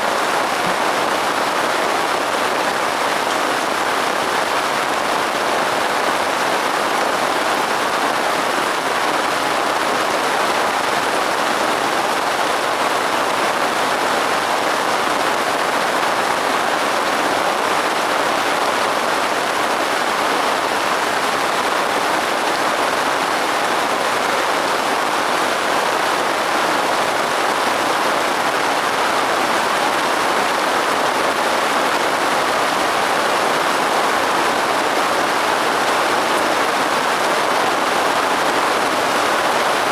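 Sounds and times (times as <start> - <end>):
soft rainfall: 0.0 - 39.9.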